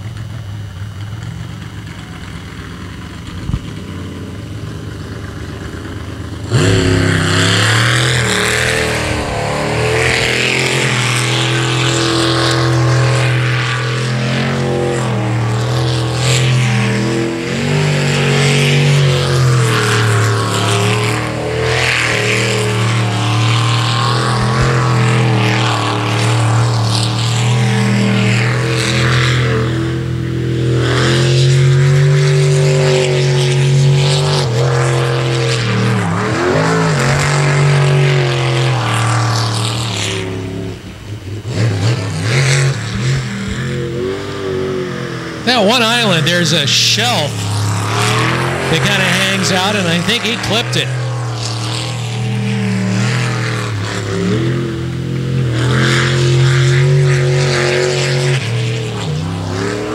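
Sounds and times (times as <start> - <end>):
boat engine revving: 0.0 - 59.9.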